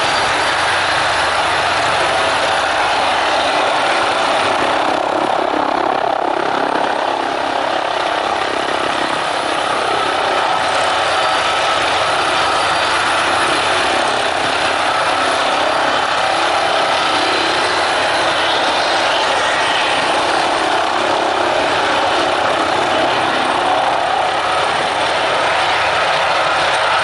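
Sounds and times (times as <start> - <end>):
helicopter rotor noise: 0.0 - 27.0
helicopter turbine whine: 0.0 - 27.0.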